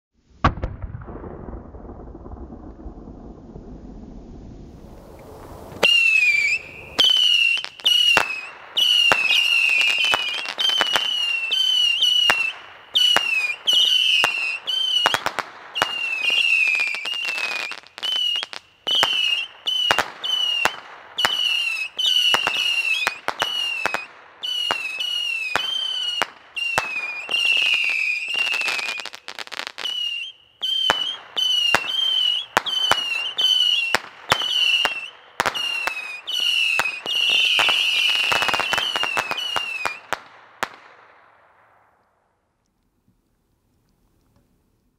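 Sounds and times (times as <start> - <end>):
rockets popping: 0.2 - 42.8
rockets whistling: 3.6 - 40.2.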